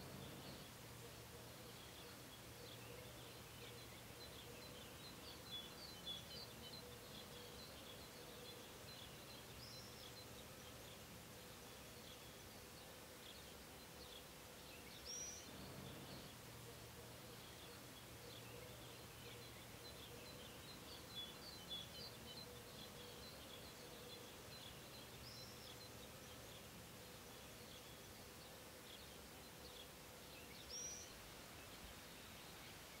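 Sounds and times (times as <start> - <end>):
faint steady hum: 0.0 - 33.0
small birds twittering: 0.0 - 33.0.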